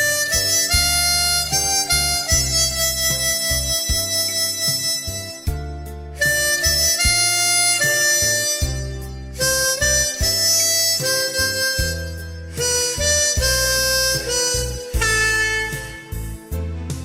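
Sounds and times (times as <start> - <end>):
harmonica playing slow melody: 0.0 - 16.7
backing track with bass line: 0.0 - 17.0.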